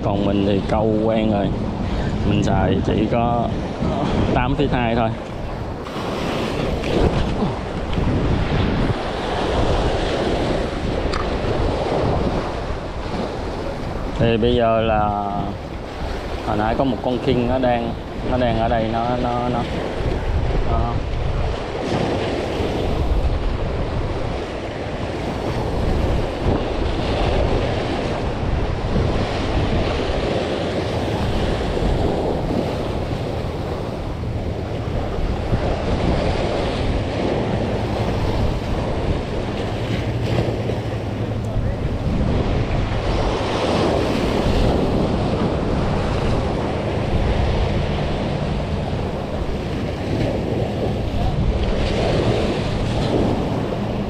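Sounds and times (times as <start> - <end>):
sea waves breaking on rocks: 0.0 - 54.0
wind buffeting microphone: 0.0 - 54.0.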